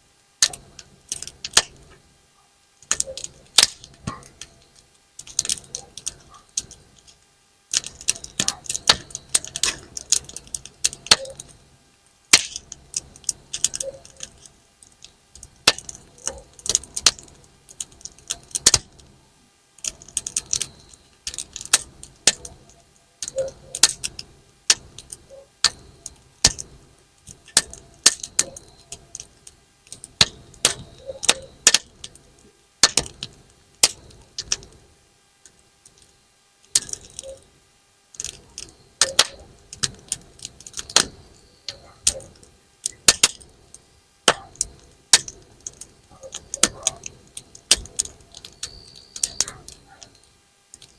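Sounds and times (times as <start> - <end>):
campfire crackling and popping: 0.3 - 50.9.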